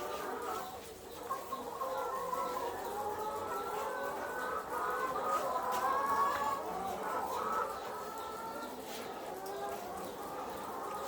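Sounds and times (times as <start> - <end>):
hens clucking and calling: 0.0 - 11.0.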